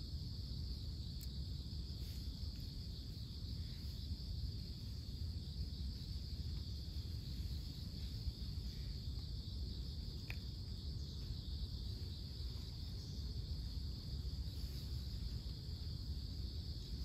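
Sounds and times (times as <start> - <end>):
constant low rumble: 0.0 - 17.0
crickets singing: 0.0 - 17.0.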